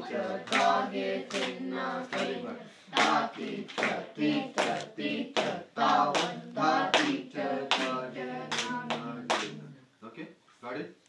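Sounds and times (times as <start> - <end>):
sharp hand claps: 0.5 - 9.6.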